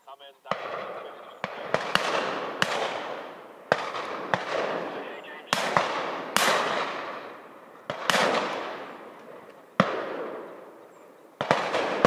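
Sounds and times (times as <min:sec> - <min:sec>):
shotgun shots echoing: 0:00.5 - 0:10.8, 0:11.4 - 0:12.0.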